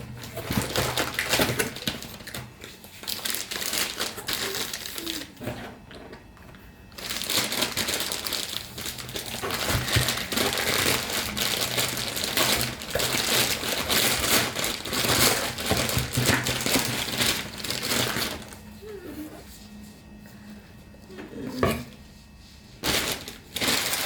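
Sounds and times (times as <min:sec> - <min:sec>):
crinkling and rustling: 0:00.0 - 0:24.0.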